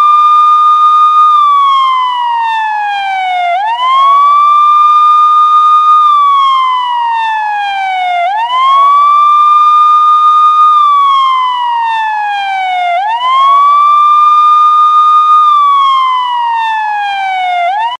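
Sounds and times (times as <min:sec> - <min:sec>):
police siren wailing: 0:00.0 - 0:18.0.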